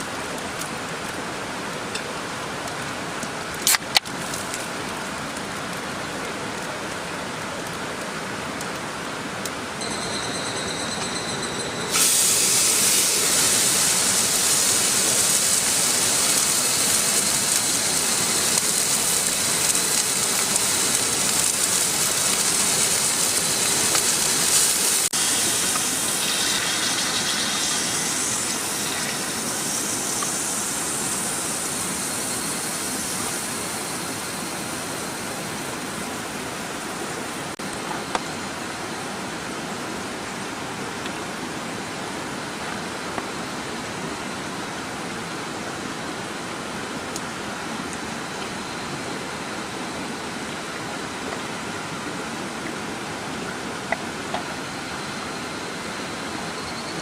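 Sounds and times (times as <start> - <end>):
hiss of rain or running water: 0.0 - 9.8, 11.8 - 57.0.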